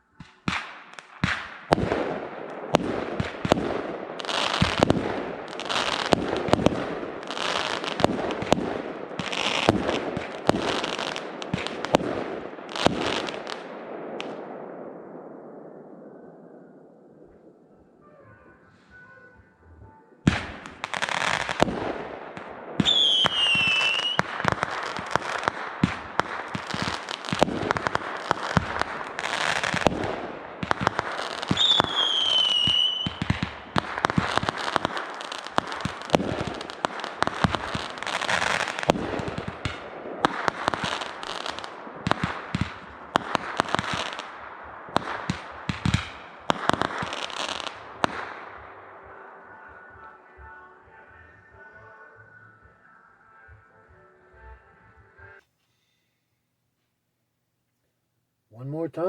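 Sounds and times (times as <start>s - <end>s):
fireworks bangs and crackling: 0.0s - 16.2s, 20.2s - 51.8s, 58.6s - 59.0s
whistling fireworks screaming: 0.0s - 54.4s.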